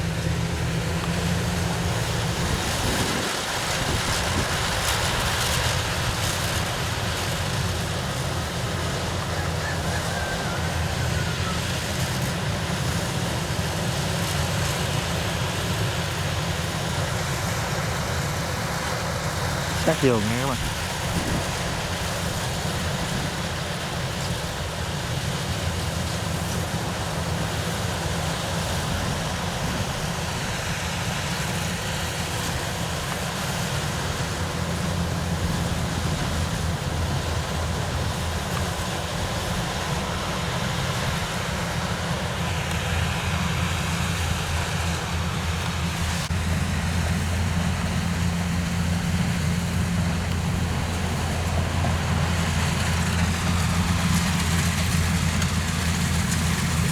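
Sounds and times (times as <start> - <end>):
heavy engine droning: 0.0 - 56.9.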